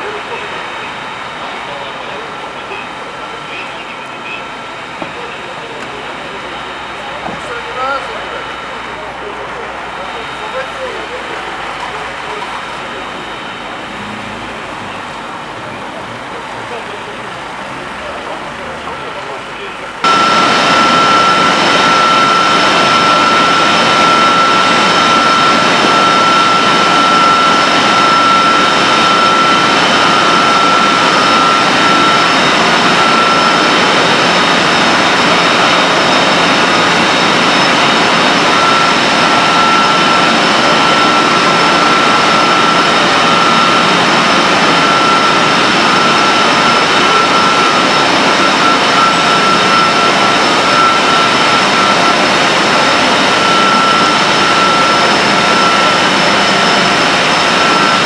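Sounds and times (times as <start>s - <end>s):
constant high whine: 0.0s - 58.0s
loud machinery roar: 0.0s - 58.0s.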